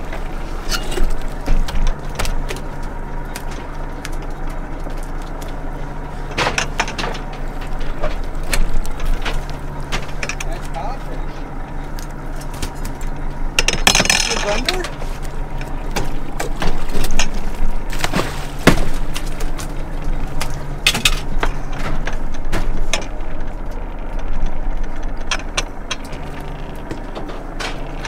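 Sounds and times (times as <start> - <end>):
boat engine humming: 0.0 - 28.0
gear clicking and knocking: 0.7 - 28.0.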